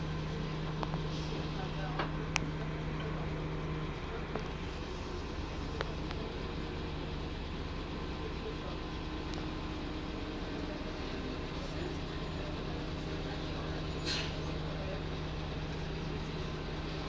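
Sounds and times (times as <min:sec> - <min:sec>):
bus diesel engine droning: 0:00.0 - 0:17.0.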